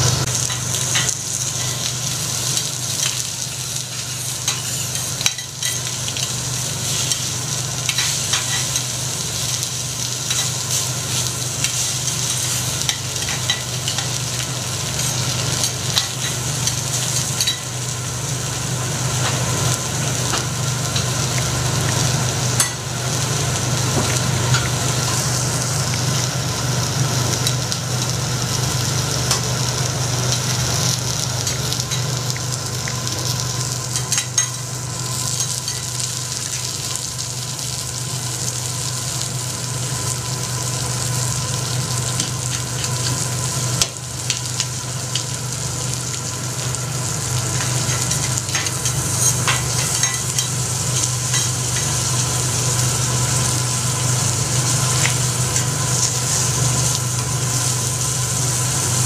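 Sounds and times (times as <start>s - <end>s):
food sizzling on griddle: 0.0s - 59.0s.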